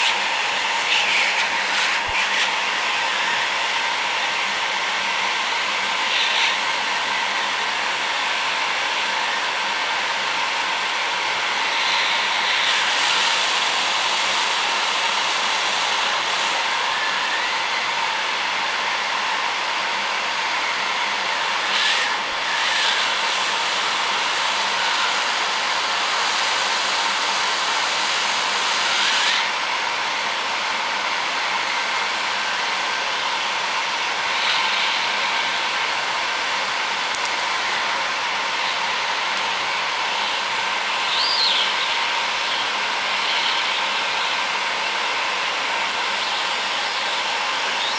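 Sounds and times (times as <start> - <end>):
heat gun hissing: 0.0 - 47.9.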